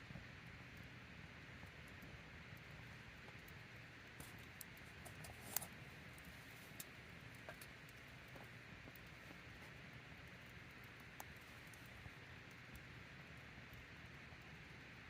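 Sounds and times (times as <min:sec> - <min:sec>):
low hiss of fire: 0:00.0 - 0:14.8
campfire crackling and popping: 0:00.0 - 0:15.0.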